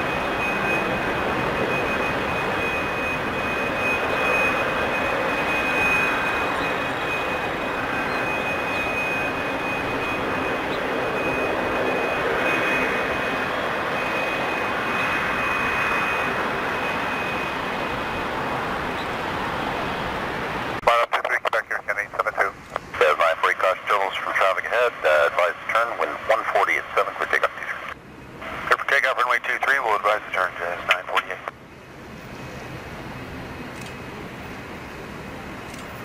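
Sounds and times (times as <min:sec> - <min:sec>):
jet engine rush: 0:00.0 - 0:36.0
jet engine turbine whine: 0:00.0 - 0:36.0.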